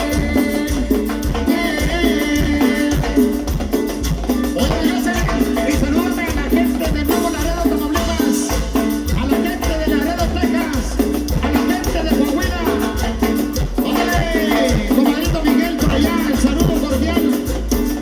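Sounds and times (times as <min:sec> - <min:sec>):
latin dance band music: 0:00.0 - 0:18.0.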